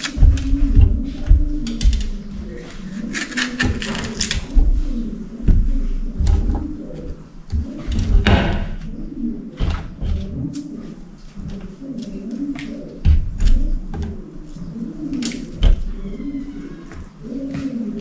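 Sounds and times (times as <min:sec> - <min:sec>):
bird cooing: 0:00.0 - 0:18.0.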